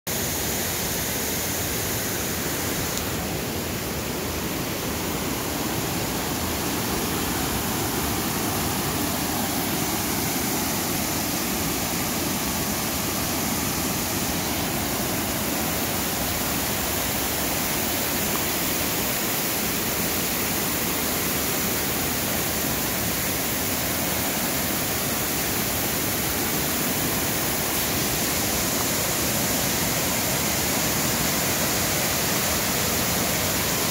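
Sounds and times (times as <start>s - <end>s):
floodwater rushing over rocks: 1.6s - 33.9s.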